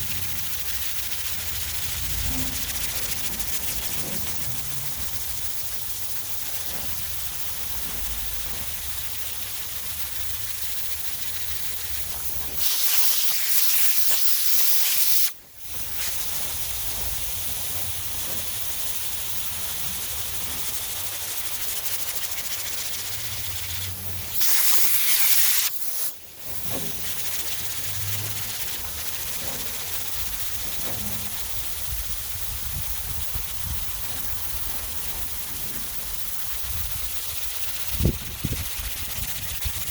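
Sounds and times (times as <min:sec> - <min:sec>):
compressed air blast: 0:00.0 - 0:39.9
sandpaper scraping: 0:00.0 - 0:39.9.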